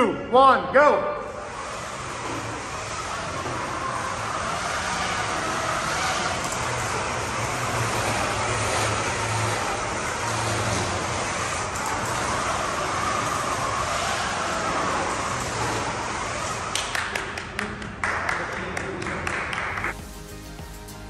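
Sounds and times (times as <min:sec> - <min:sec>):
electric motors whining: 0:01.1 - 0:18.0.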